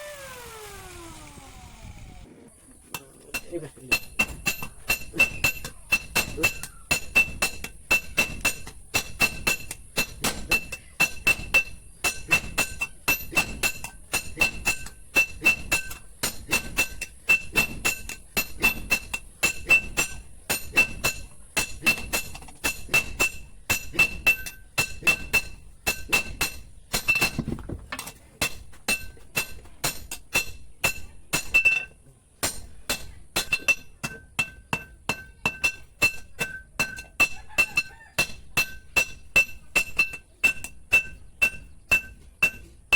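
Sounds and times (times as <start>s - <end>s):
hammer blows on anvil: 2.9s - 27.5s, 28.4s - 42.7s.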